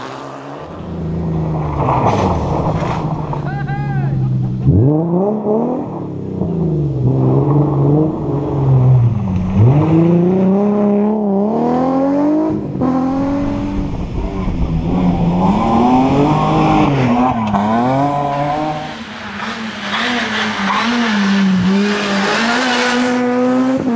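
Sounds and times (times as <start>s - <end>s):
rally car engine revving: 0.0s - 23.9s.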